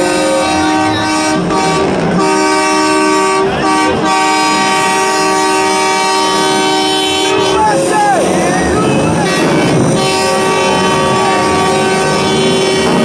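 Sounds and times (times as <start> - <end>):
vehicle horns sounding together: 0.0 - 13.0.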